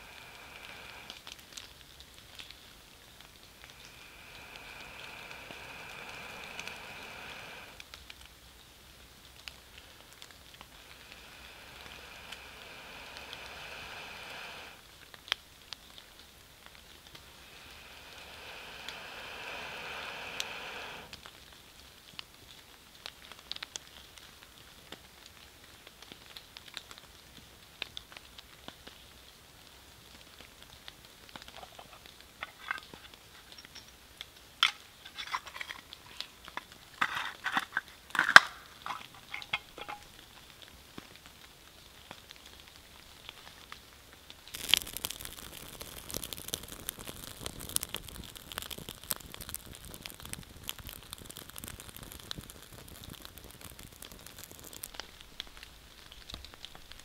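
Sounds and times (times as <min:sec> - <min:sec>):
light crackles and crinkling: 0:00.0 - 0:57.0
rain pattering: 0:00.0 - 0:57.0.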